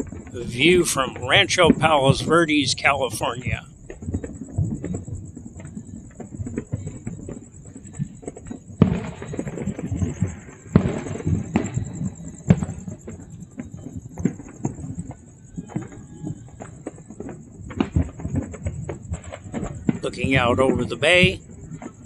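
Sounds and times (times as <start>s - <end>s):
fireworks popping and booming: 0.0s - 22.0s
loud firework bangs: 0.0s - 22.0s.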